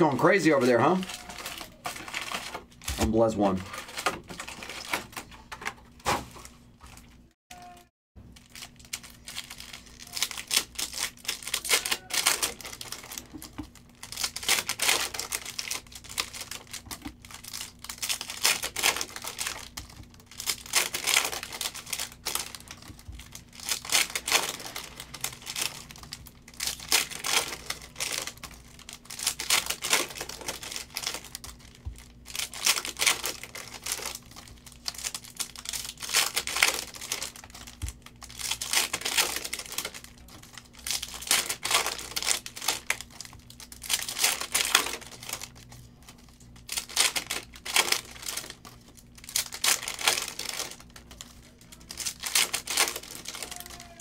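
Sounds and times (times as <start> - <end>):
foil packs tearing: 0.0 - 5.3, 8.4 - 54.0
wrappers crinkling: 0.0 - 7.4, 8.2 - 54.0.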